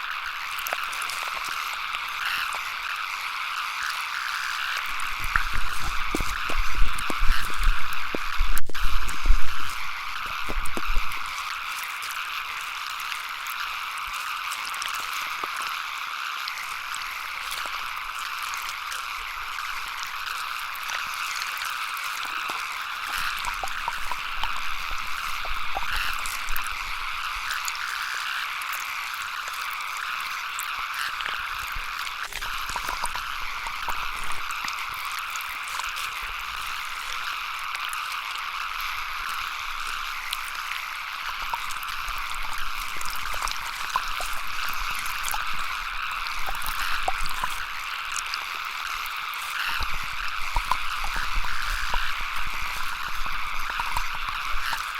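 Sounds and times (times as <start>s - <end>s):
constant hiss: 0.0s - 54.9s
small clicks and drips: 0.0s - 54.9s.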